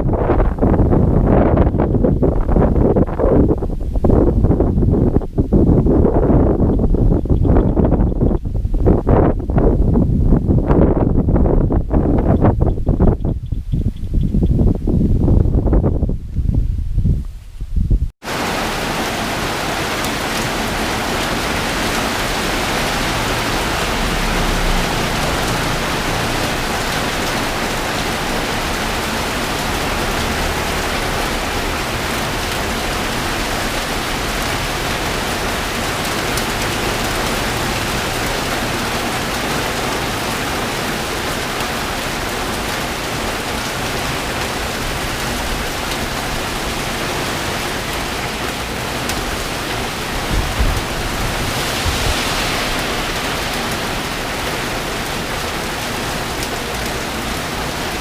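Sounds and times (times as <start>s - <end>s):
heavy rain pouring: 0.0s - 13.2s, 18.2s - 58.0s.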